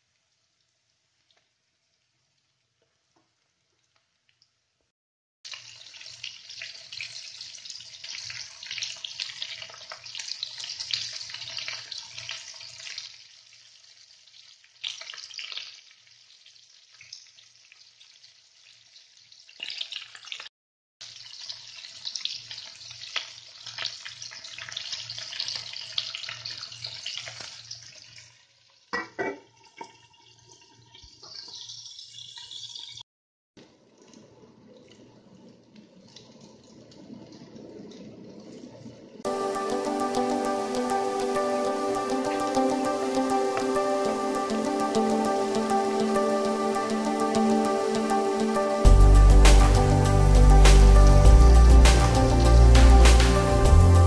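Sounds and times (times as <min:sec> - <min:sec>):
fish frying in hot oil: 0:00.0 - 0:33.0, 0:33.6 - 0:48.0.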